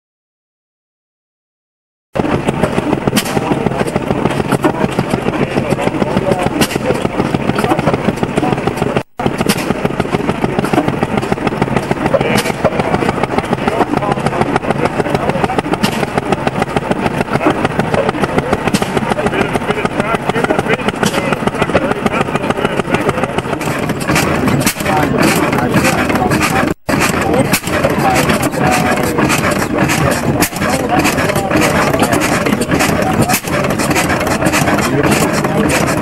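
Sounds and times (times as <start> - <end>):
engine running: 2.2 - 36.0.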